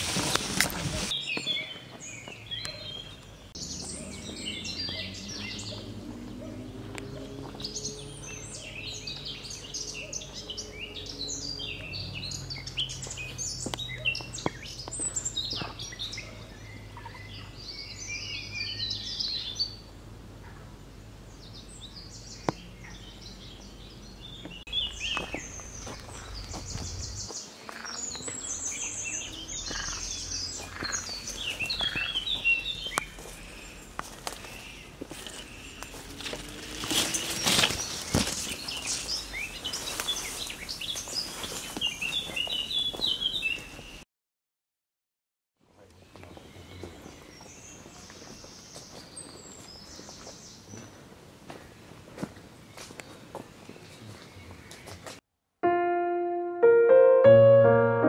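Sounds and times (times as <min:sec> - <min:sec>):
small birds chirping: 0:01.0 - 0:44.0, 0:45.8 - 0:51.0.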